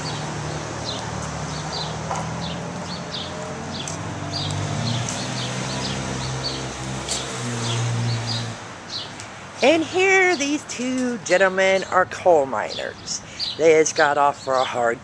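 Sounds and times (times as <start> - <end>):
small birds chirping: 0.0 - 10.6, 11.2 - 15.0
street traffic hum: 0.0 - 15.0.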